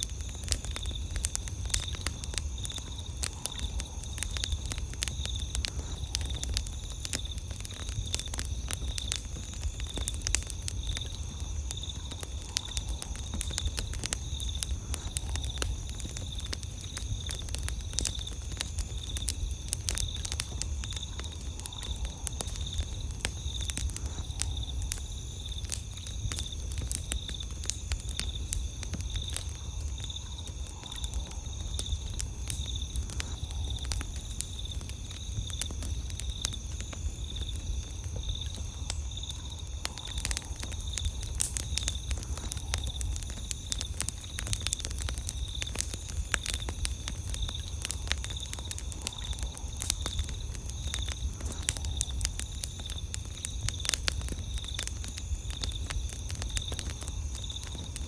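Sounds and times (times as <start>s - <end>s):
campfire crackling and popping: 0.0s - 58.0s
insects chirping: 0.0s - 58.0s.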